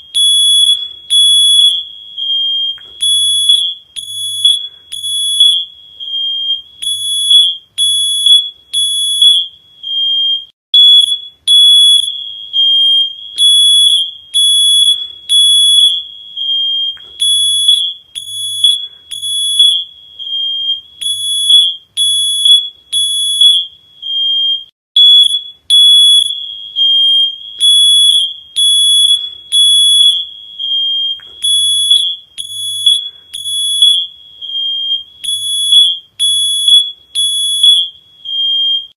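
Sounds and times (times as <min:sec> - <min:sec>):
shrill electronic alarm beeping: 0:00.0 - 0:38.9.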